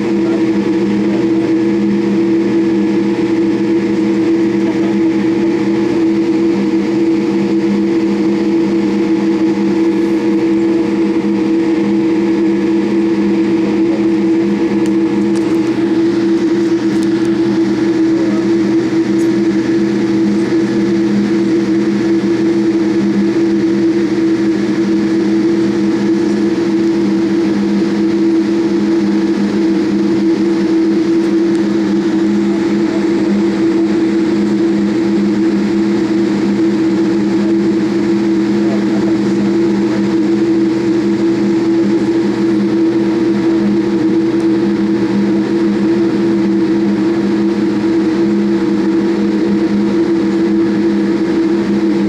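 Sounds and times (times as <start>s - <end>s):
airplane cabin engine drone: 0.0s - 52.0s.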